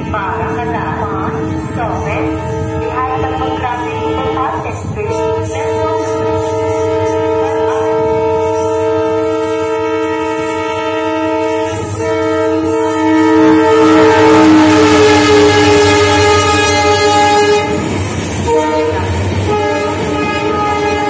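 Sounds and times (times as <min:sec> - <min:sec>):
low rumble of train: 0:00.0 - 0:21.0
locomotive horn blast: 0:01.2 - 0:21.0.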